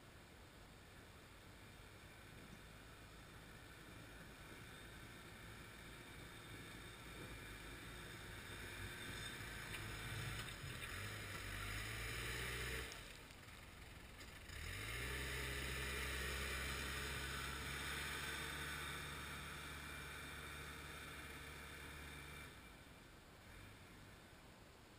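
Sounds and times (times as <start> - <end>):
diesel engine under load: 1.6 - 24.3.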